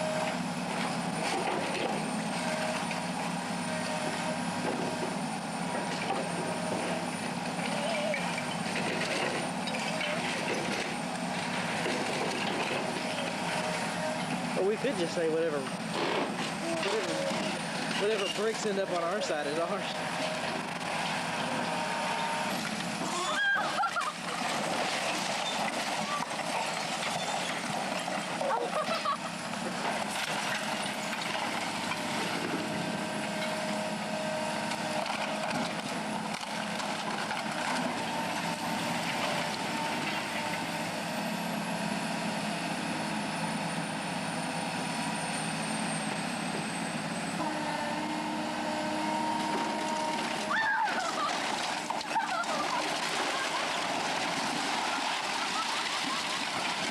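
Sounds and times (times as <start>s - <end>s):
heavy demolition machinery running: 0.0s - 56.9s.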